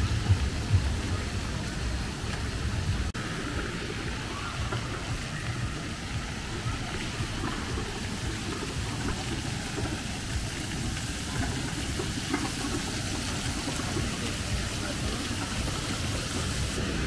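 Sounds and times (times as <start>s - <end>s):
rushing splashing water: 0.0s - 17.0s.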